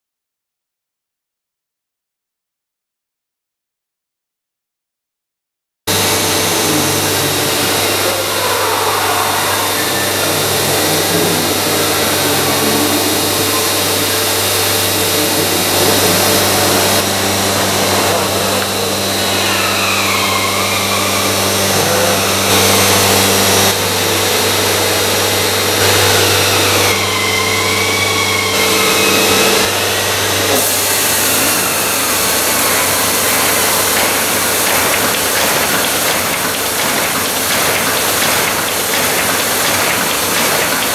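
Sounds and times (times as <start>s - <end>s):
paper folding machine whirring: 5.9s - 40.9s.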